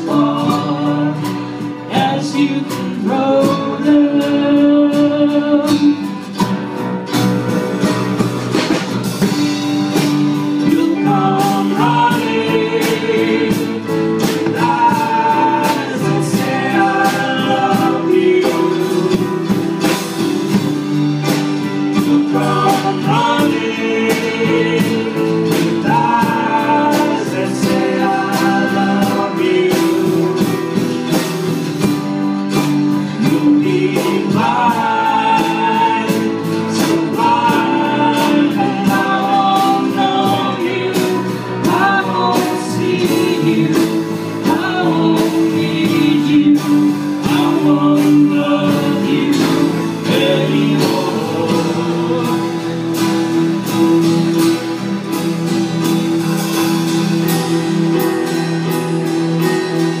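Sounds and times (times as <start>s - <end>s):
voices singing together: 0.0s - 6.4s, 9.0s - 58.4s
strummed acoustic guitars: 0.0s - 60.0s.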